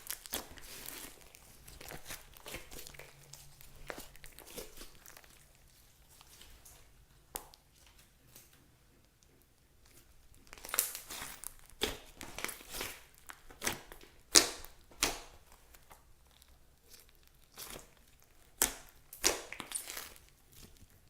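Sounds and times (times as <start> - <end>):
slime crackling and tearing: 0.0 - 7.8, 9.8 - 21.0.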